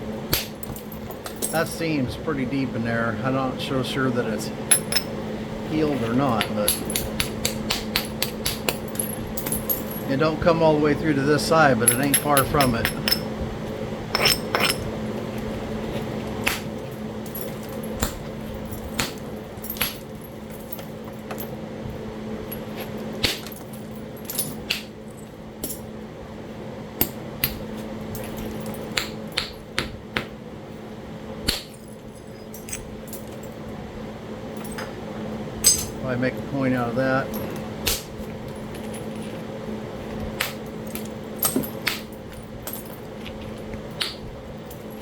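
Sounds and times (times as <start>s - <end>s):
electric fan humming: 0.0s - 45.0s.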